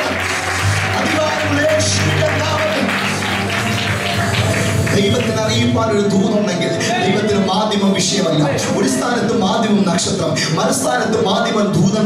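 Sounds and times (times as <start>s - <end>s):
keyboard playing low bass: 0.0s - 12.0s.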